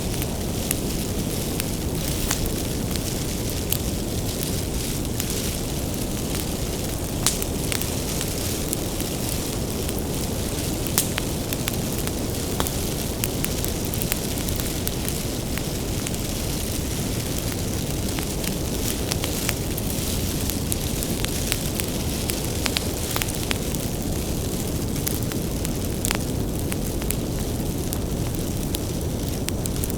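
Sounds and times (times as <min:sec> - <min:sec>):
bonfire flames rumbling: 0:00.0 - 0:29.9
wood crackling and popping: 0:00.0 - 0:29.9.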